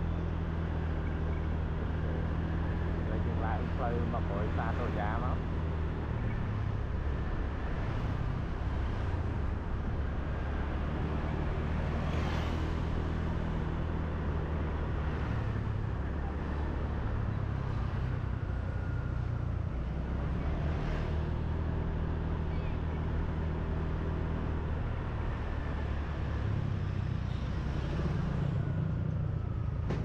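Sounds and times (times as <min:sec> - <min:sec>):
street traffic: 0:00.0 - 0:30.0
wind: 0:00.0 - 0:30.0.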